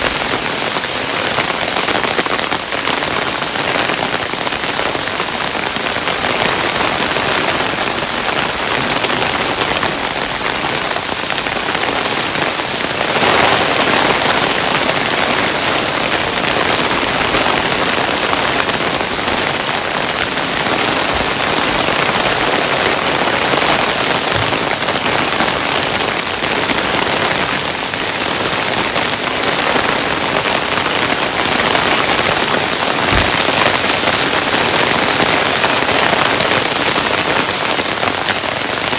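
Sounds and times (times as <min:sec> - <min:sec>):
hailstones pattering: 0:00.0 - 0:38.9.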